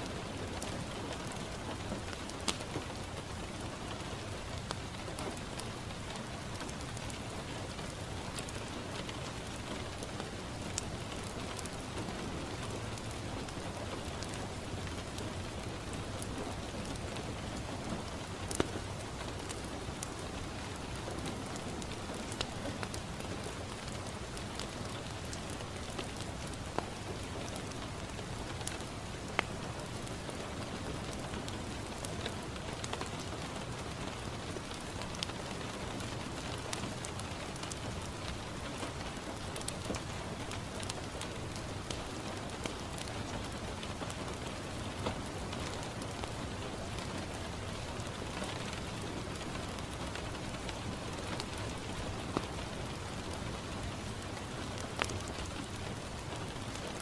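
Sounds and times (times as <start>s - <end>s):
rain on a window: 0.0s - 57.0s
wood fire crackling and popping: 0.2s - 57.0s.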